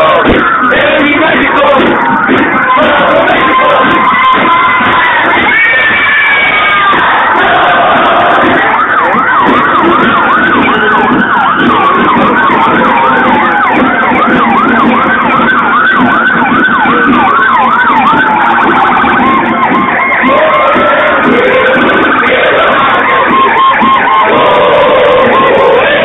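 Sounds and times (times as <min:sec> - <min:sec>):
pulsing siren tone: 0:00.0 - 0:26.0
siren fast yelp: 0:00.0 - 0:26.0
siren slow wail: 0:00.0 - 0:26.0.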